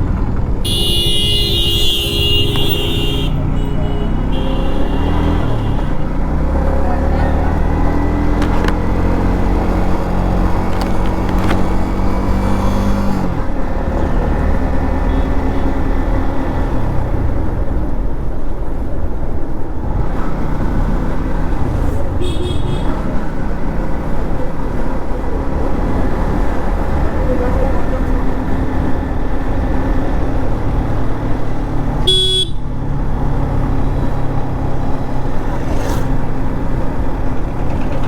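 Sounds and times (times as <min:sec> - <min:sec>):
motorcycle engine cruising: 0:00.0 - 0:38.0
wind and road noise: 0:00.0 - 0:38.0.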